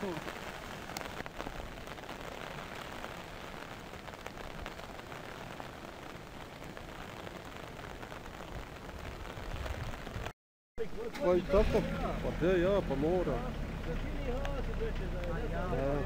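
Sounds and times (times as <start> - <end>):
steady rain on pavement: 0.0 - 16.0.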